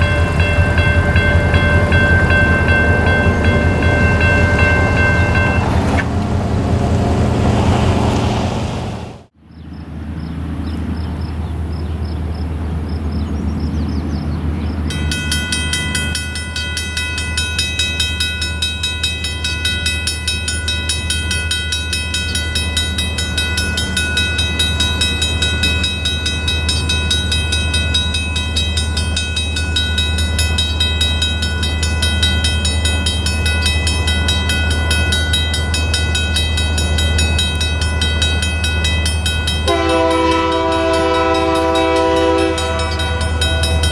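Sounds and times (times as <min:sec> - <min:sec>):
railroad crossing bell ringing: 0:00.0 - 0:07.3, 0:12.5 - 0:43.9
train rumbling: 0:00.0 - 0:43.9.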